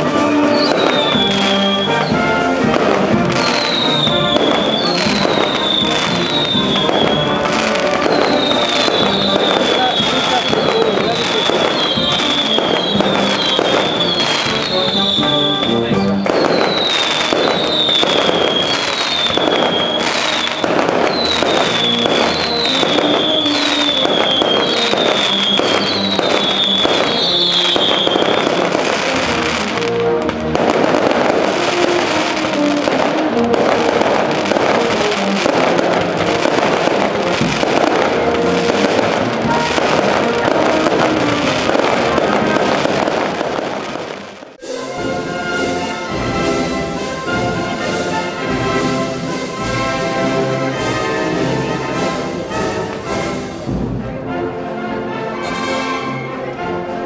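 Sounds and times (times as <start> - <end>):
music from loudspeakers: 0.0 - 53.0
fireworks crackling and banging: 0.0 - 54.3.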